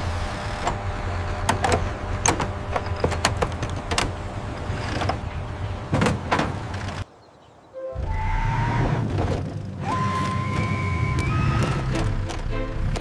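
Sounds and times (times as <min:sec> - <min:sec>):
low truck engine rumble: 0:00.0 - 0:13.0.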